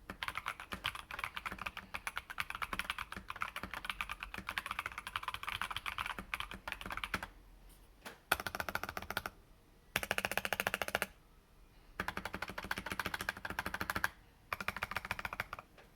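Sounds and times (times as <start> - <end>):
mechanical keyboard typing: 0.1 - 7.3, 8.3 - 9.4, 10.0 - 11.1, 12.0 - 15.7.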